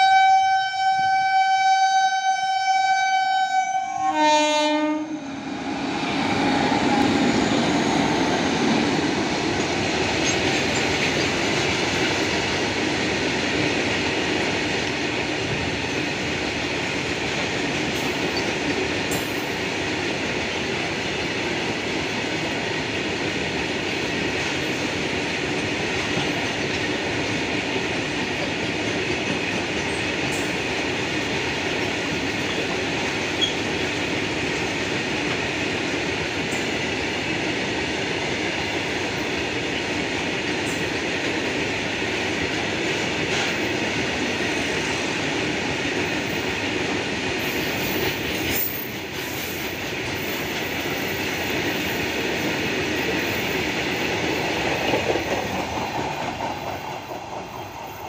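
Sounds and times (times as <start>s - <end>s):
train wheels rolling on rails: 4.1s - 58.0s.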